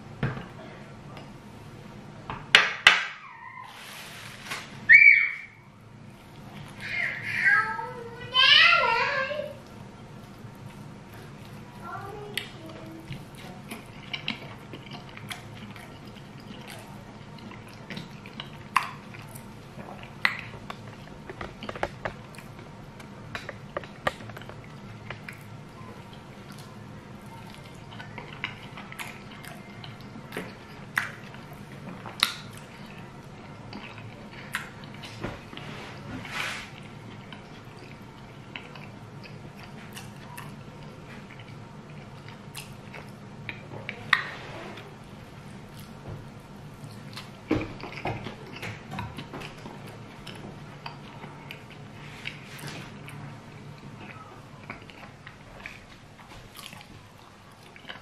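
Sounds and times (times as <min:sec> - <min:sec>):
steady low hum: 0:00.0 - 0:58.0
wet chewing with smacks: 0:09.6 - 0:36.1, 0:36.7 - 0:58.0.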